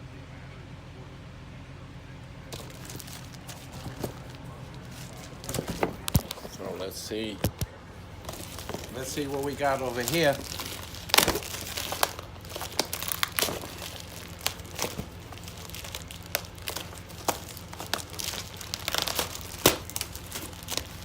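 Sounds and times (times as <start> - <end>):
packaging crinkling and tearing: 2.5 - 6.8, 7.4 - 21.0.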